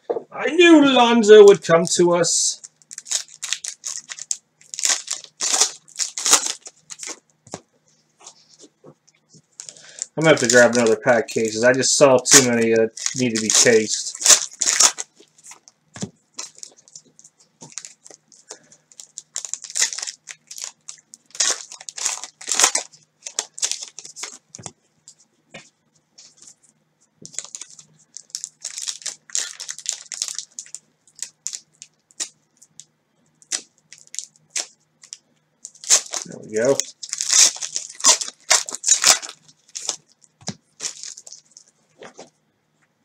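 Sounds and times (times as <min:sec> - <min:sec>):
plastic sleeves crinkling: 0:00.5 - 0:42.4.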